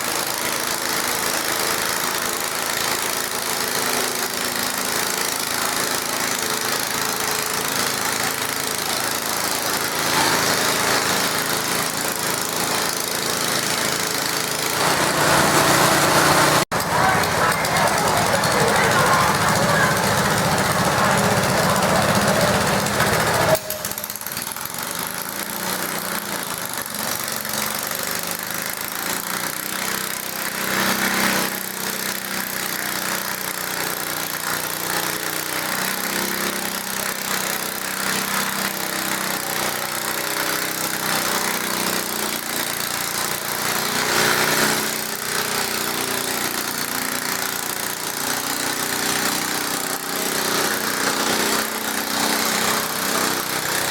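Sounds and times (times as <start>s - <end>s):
garden tractor engines running: 0.0s - 53.9s.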